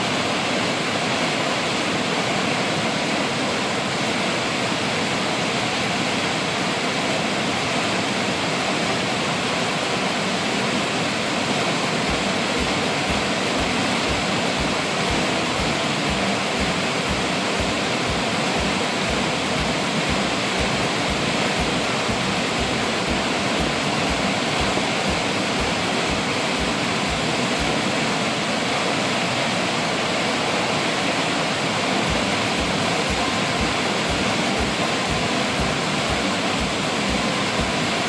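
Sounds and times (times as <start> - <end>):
floodwater rushing over rocks: 0.0 - 38.0.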